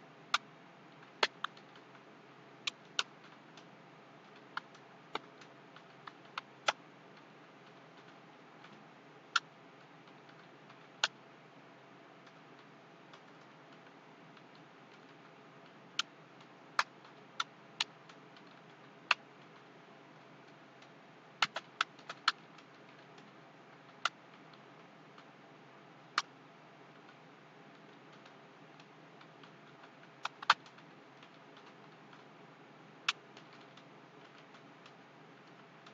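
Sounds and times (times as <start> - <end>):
low steady hiss: 0.0 - 35.9.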